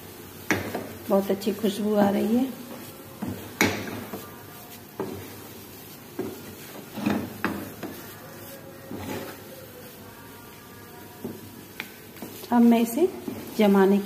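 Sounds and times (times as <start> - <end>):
spatula scraping frying pan: 0.3 - 14.0.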